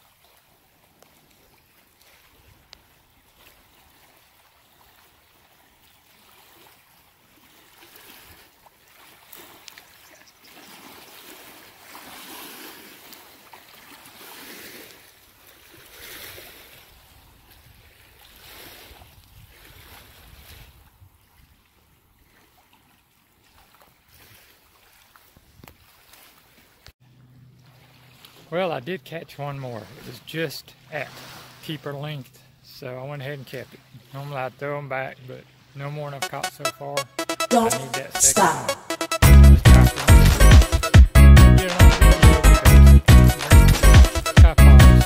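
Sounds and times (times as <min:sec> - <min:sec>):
small waves lapping on bank: 0:00.0 - 0:37.3.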